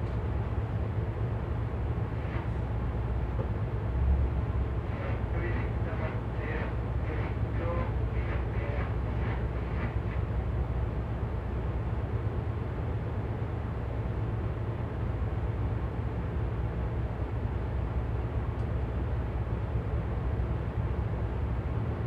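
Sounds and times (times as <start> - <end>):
boat diesel engines rumbling: 0.0 - 22.0.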